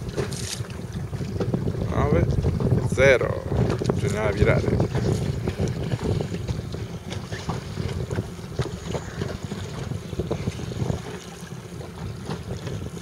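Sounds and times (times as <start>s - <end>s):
water splashing and knocking: 0.0s - 13.0s
wind buffeting microphone: 0.0s - 13.0s.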